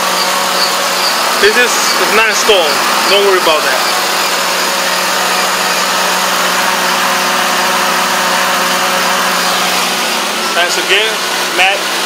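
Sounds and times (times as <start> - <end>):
loud distorted bass tone: 0.0 - 12.0
steady hum: 0.0 - 12.0.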